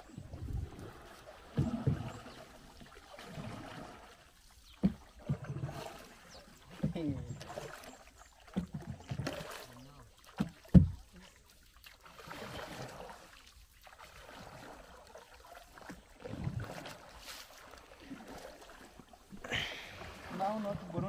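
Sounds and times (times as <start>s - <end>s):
paddles swishing through water: 0.0s - 21.0s.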